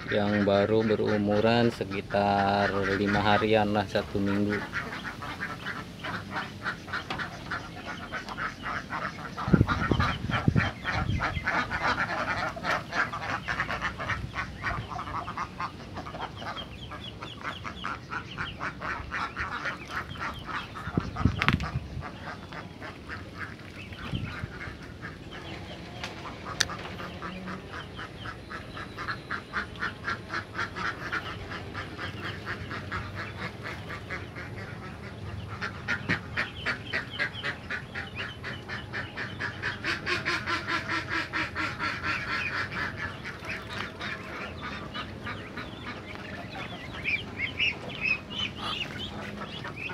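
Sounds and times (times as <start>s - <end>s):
ducks quacking: 0.0s - 49.9s.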